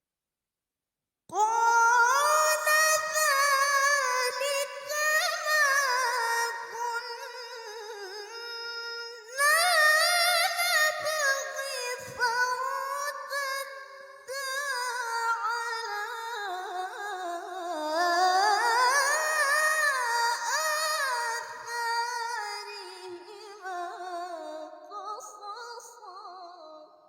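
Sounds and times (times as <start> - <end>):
woman chanting recitation: 1.3 - 26.9.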